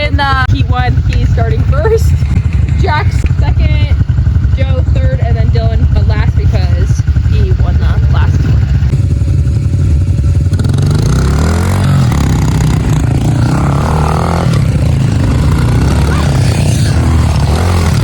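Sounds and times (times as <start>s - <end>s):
pit bike engines revving: 0.0s - 18.0s.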